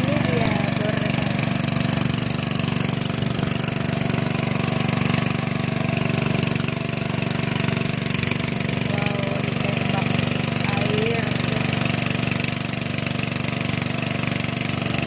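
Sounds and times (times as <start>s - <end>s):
small pump engine running: 0.0s - 15.0s.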